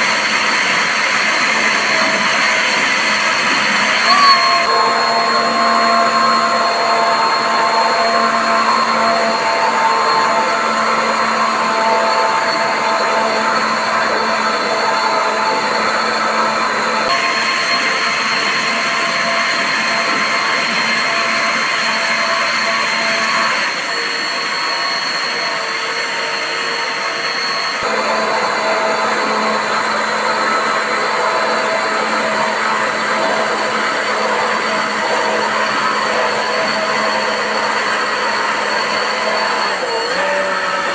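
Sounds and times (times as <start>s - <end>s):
motor whine: 0.0s - 40.9s.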